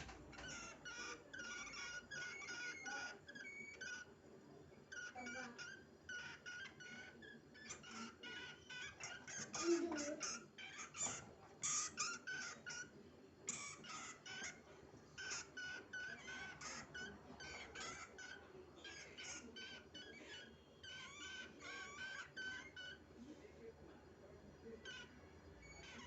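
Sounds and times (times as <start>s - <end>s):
rat squeaking: 0.0s - 23.1s, 24.8s - 26.0s.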